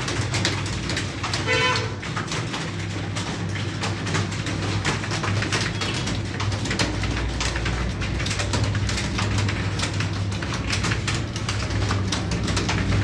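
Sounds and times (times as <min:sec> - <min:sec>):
fast keyboard typing: 0:00.0 - 0:13.0.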